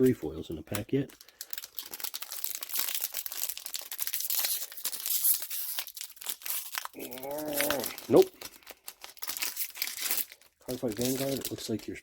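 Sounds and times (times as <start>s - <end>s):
foil wrapper tearing and crinkling: 0.7s - 12.0s.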